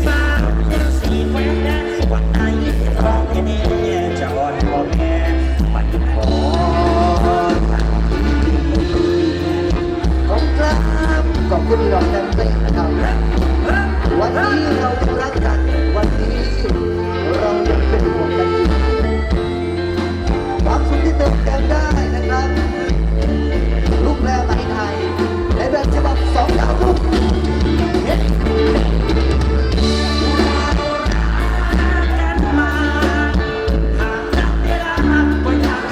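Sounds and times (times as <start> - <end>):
heavy bass line: 0.0 - 35.9
live band music: 0.0 - 35.9
person singing: 0.0 - 35.9.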